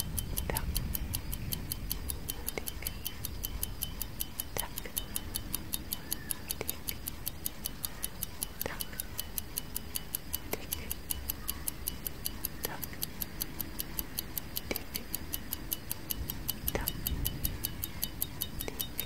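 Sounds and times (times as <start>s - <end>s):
clock ticking: 0.0s - 19.0s.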